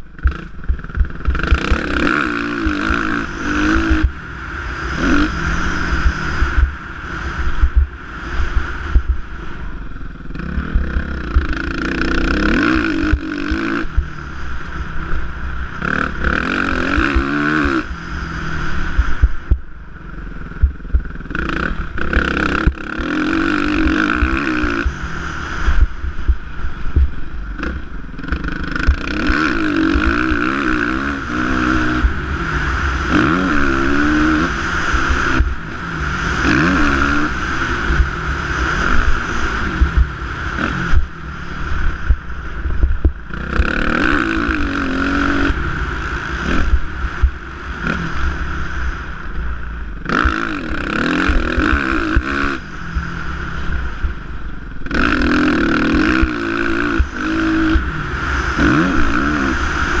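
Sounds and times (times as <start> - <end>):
motocross bike engine revving: 0.0 - 60.0.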